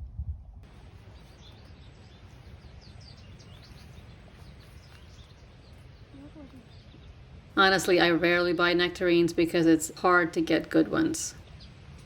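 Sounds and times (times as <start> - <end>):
songbirds chirping: 0.6 - 12.0
steady faint rush: 0.6 - 12.0.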